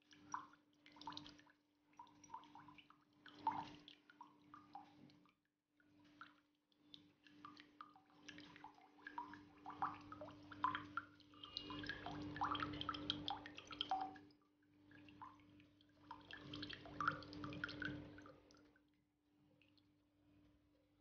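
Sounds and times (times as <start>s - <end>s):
water dripping into a glass: 0.0s - 18.8s.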